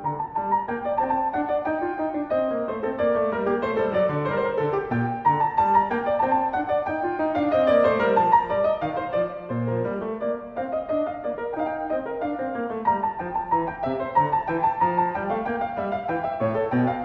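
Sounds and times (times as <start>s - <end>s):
piano piece: 0.0s - 17.0s.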